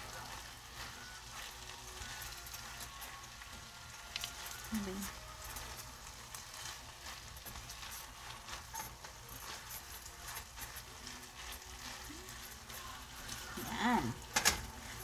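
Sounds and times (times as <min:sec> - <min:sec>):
filling sizzling in a frying pan: 0:00.0 - 0:15.0
spatula scraping a pan: 0:00.0 - 0:15.0.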